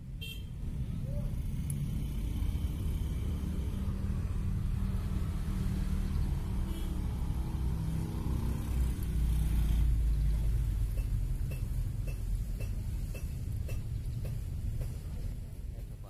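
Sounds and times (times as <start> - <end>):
motor traffic rumble: 0.0 - 16.0.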